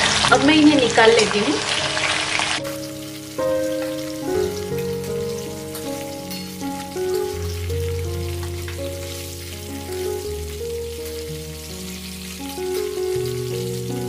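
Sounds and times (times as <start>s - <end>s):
background music: 0.0s - 14.0s
fish sizzling in hot oil: 0.0s - 14.0s.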